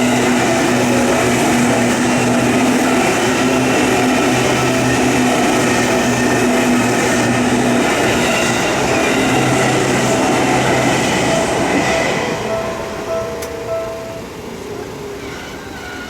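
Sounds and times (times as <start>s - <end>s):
crossing warning bell ringing: 0.0s - 16.0s
train wheels rumbling: 0.0s - 16.0s.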